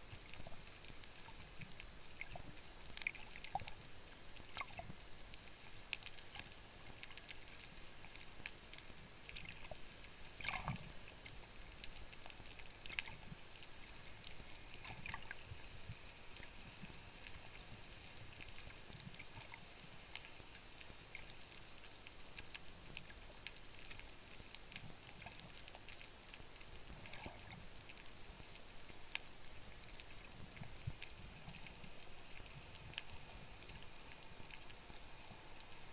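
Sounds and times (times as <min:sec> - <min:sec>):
small underwater clicks and crackles: 0:00.0 - 0:35.9.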